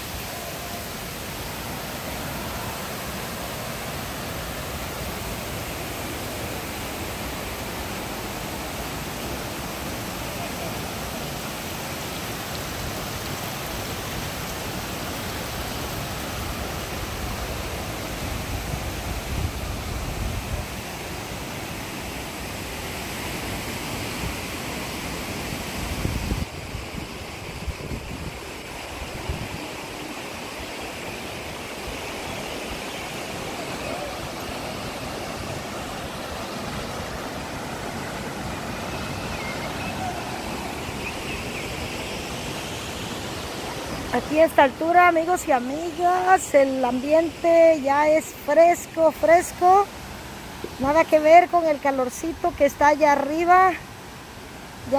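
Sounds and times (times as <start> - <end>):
river and waterfall rushing: 0.0 - 54.9.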